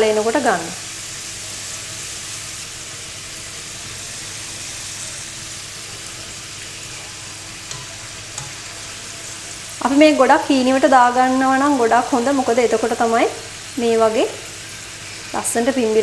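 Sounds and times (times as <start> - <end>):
dough deep-frying in hot oil: 0.0 - 16.0.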